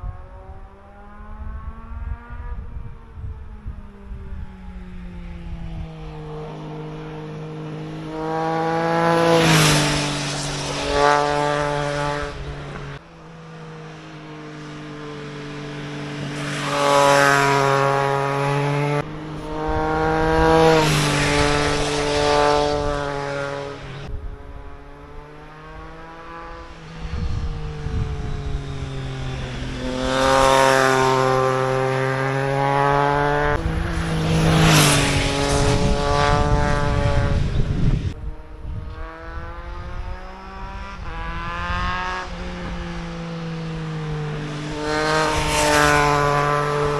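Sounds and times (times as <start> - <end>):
motorcycle passing by at speed: 0.0 - 46.9.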